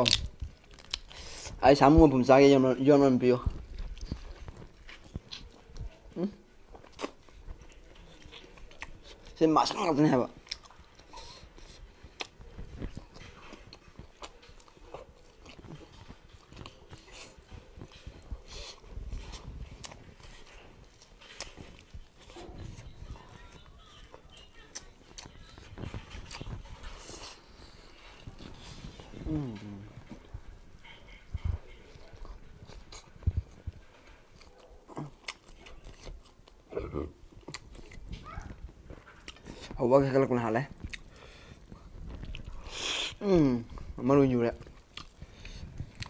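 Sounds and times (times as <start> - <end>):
wet chewing and lip-smacking: 0.0 - 1.6, 3.3 - 46.0.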